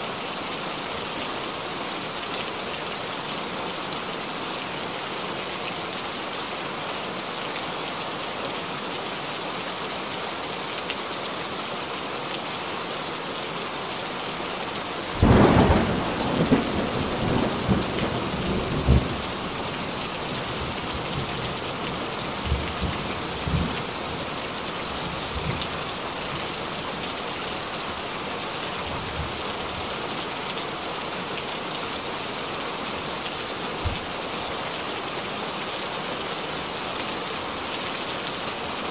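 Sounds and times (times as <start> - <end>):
heavy rain on water: 0.0 - 38.9.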